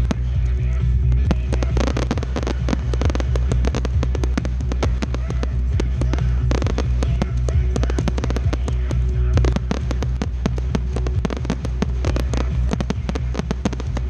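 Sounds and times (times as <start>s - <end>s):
fireworks bangs and crackles: 0.0s - 14.0s
steady low hum: 0.0s - 14.0s.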